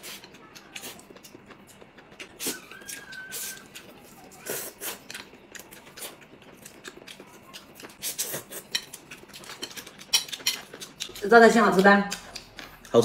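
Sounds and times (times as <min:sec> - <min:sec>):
noodles slurping: 0:00.0 - 0:11.2
chewing: 0:00.0 - 0:13.0.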